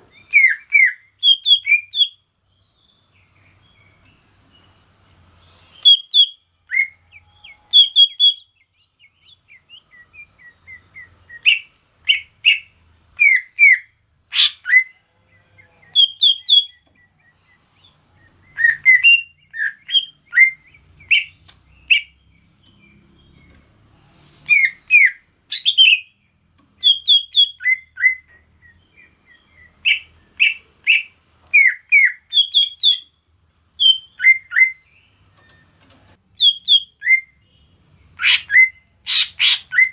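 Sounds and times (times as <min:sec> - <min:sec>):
bird singing whistled notes: 0:00.1 - 0:04.8, 0:05.4 - 0:23.6, 0:24.4 - 0:26.2, 0:26.8 - 0:33.2, 0:33.8 - 0:35.8, 0:36.4 - 0:39.9.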